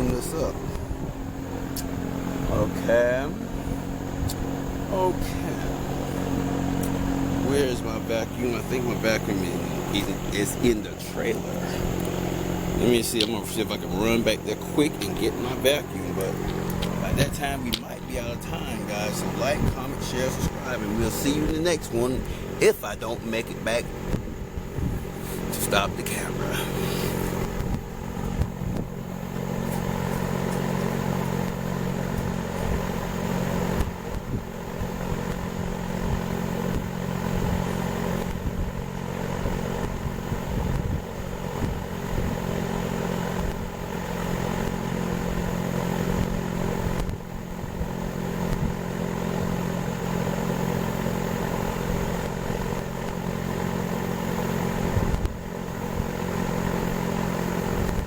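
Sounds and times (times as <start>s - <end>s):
motor humming: 0.0s - 58.0s.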